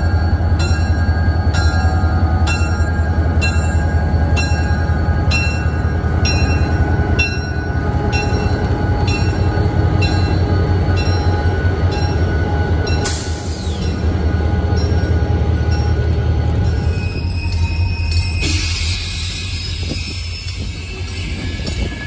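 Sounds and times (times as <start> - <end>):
diesel locomotive engine rumbling: 0.0 - 22.0
locomotive bell ringing: 0.0 - 22.0.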